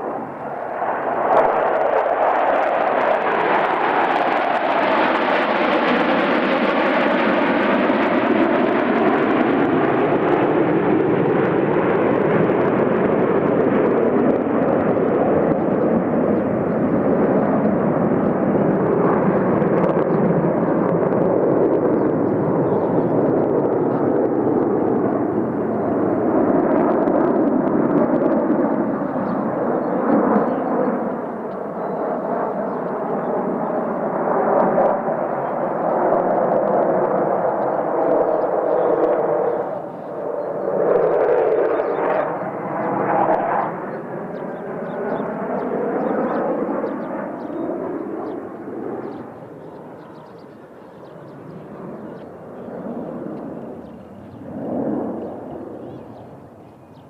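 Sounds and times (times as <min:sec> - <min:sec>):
jet roar overhead: 0:00.0 - 0:57.0.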